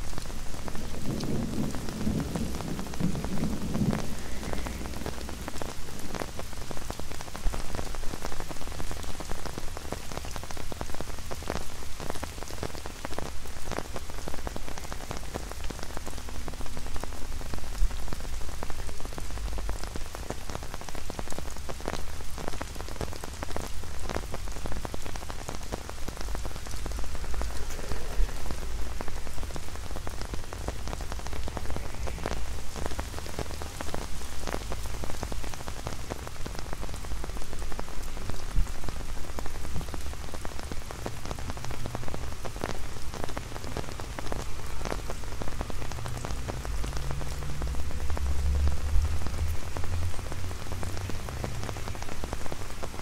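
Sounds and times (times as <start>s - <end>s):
rain on an umbrella: 0.0s - 53.0s.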